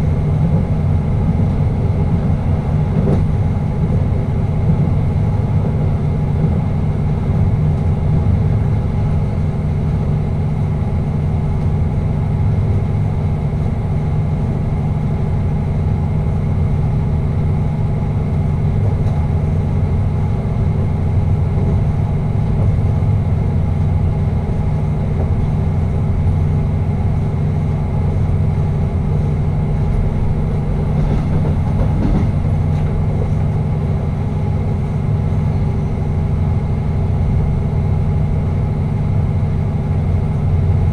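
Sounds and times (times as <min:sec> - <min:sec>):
train running drone: 0:00.0 - 0:40.9.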